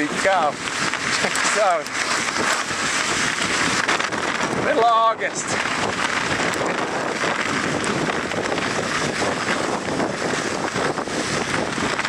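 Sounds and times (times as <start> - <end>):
bike rattling: 0.0 - 12.0
bike tyre noise: 0.0 - 12.0
wind on microphone: 0.0 - 12.0.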